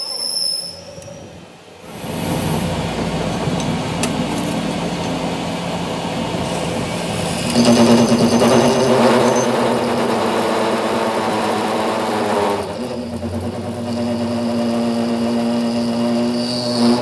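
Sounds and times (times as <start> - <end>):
motor humming: 1.9 - 17.0.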